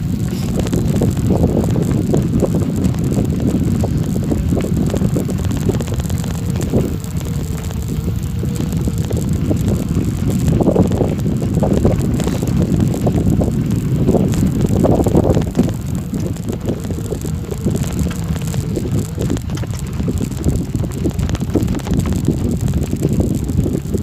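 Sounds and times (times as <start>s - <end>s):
bicycle rattling: 0.0s - 24.0s
tyres crunching on gravel: 0.0s - 24.0s
wind on microphone: 0.0s - 24.0s.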